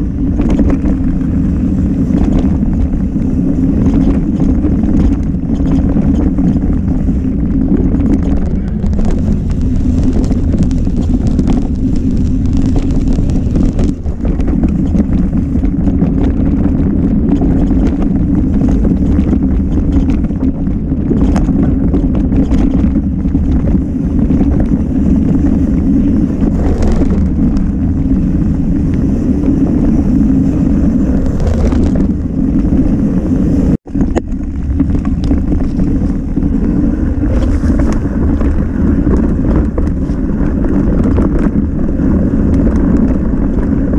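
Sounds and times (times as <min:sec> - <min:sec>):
mountain bike rumbling on trail: 0:00.0 - 0:43.9
wind buffeting microphone: 0:00.0 - 0:43.9.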